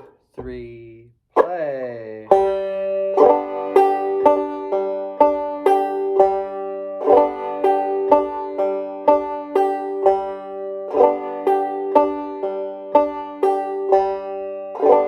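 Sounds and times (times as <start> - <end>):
banjo playing: 0.0 - 15.0.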